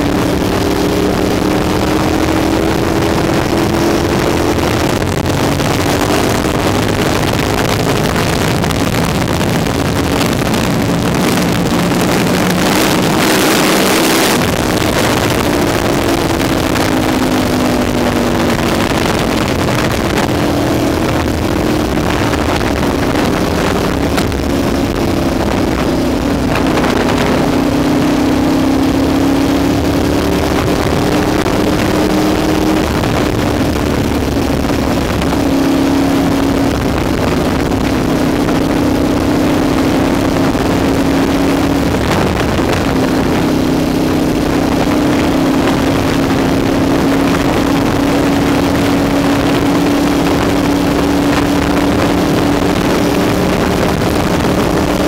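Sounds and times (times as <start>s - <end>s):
motorcycle engine cruising: 0.0s - 55.0s
wind on microphone: 0.0s - 55.0s.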